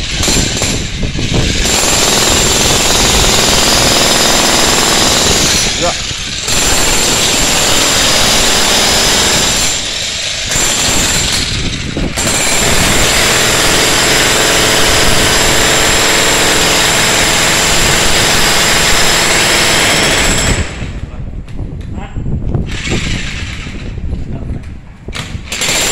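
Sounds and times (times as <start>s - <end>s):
demolition hammer chiselling concrete: 0.0s - 20.9s, 25.4s - 25.9s.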